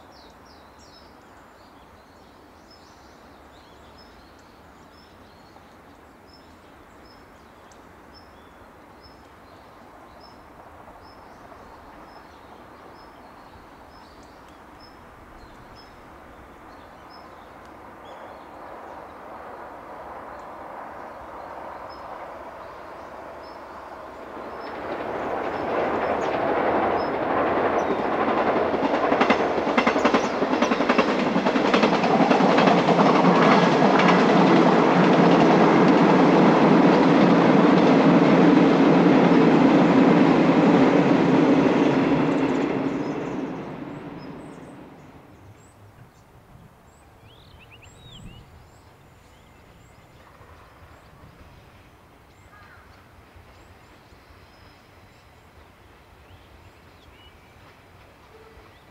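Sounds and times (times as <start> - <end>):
train rumbling past: 0.0 - 58.9.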